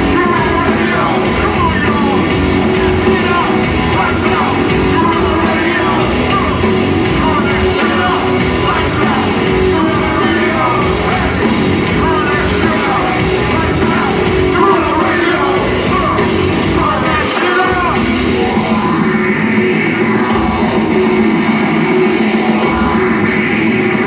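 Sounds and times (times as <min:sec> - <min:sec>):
distorted electric guitar: 0:00.0 - 0:24.0
rapped yelled vocals: 0:00.0 - 0:24.0
rock band playing live: 0:00.0 - 0:24.0.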